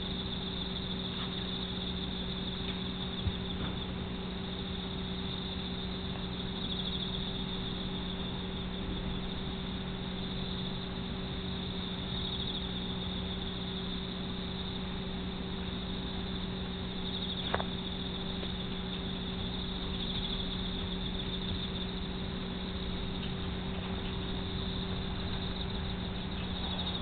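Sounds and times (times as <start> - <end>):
low electrical hum and hiss: 0.0 - 27.0.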